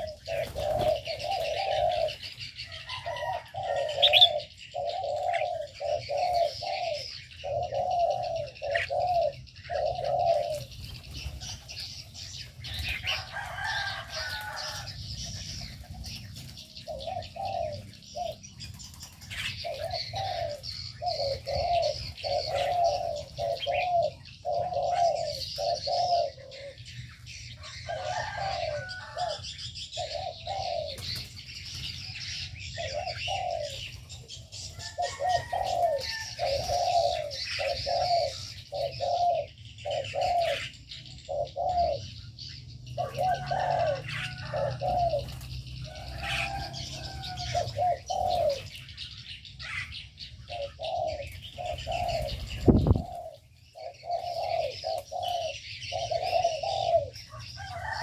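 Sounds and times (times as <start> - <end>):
doves cooing: 0.0 - 58.0
small birds chirping: 0.0 - 58.0.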